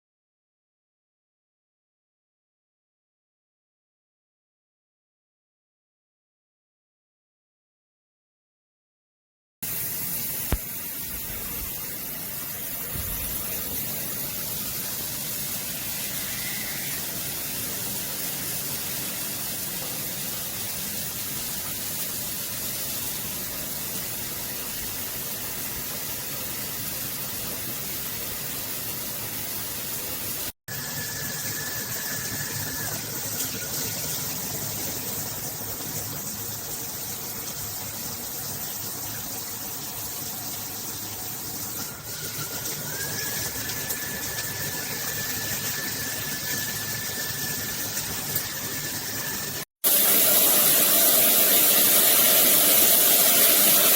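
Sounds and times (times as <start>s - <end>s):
shower water spraying: 9.6s - 53.9s.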